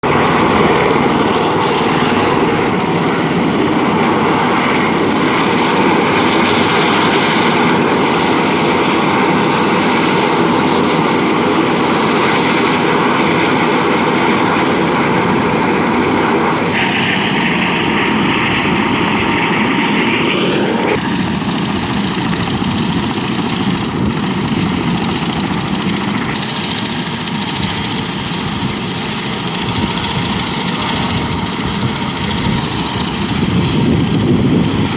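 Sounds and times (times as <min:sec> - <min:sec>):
helicopter taking off: 0:00.0 - 0:34.9.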